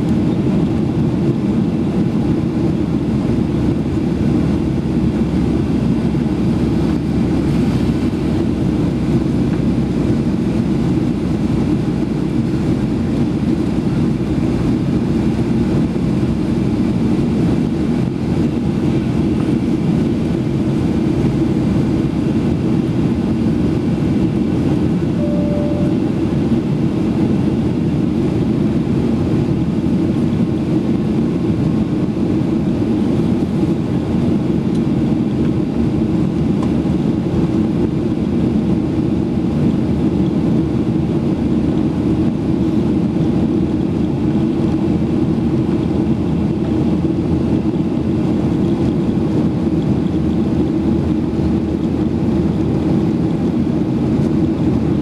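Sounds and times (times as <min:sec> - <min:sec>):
airplane cabin jet engine rumble: 0:00.0 - 0:55.0.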